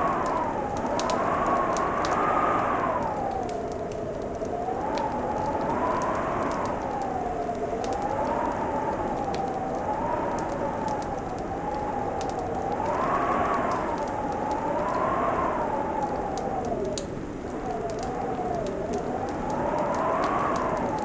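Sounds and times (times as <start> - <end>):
fireplace crackling: 0.0 - 21.0
wind howling: 0.0 - 21.0.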